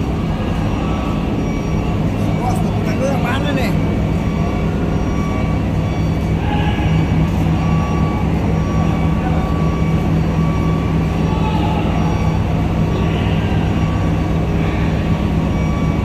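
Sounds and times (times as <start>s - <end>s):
heavy diesel engines running: 0.0s - 16.0s.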